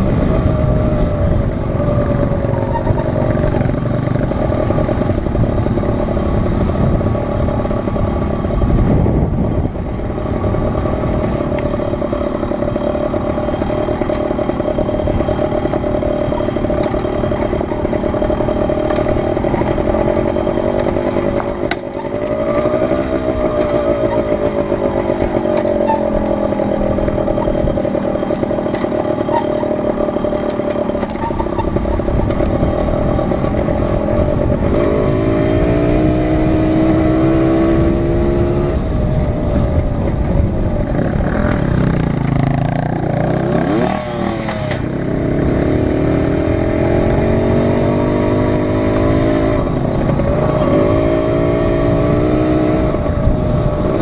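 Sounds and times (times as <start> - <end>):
dirt bike engine revving: 0.0 - 38.8, 40.9 - 54.0
wind rumble: 0.0 - 54.0.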